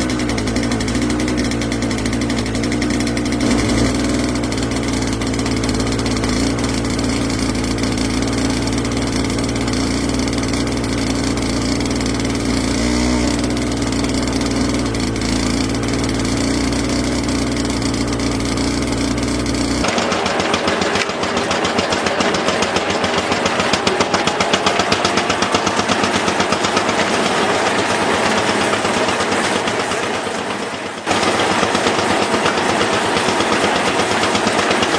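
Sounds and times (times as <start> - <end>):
engine with rapid firing beat: 0.0 - 34.9
tractor engine running: 0.0 - 34.9.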